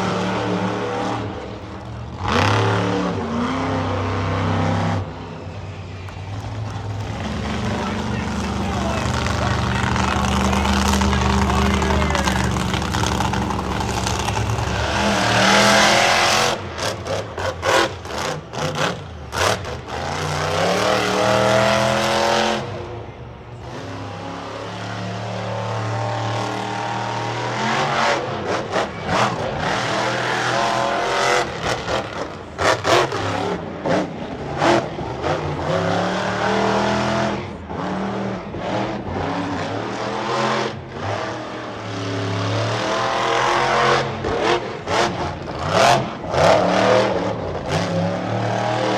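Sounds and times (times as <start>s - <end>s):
monster truck engine revving: 0.0s - 48.9s.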